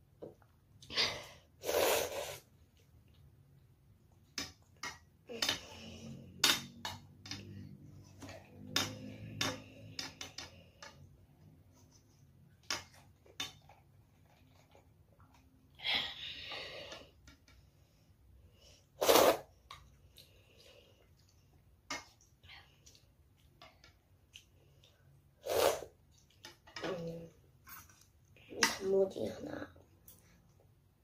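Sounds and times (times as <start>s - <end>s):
eating and sipping: 1.6s - 28.5s.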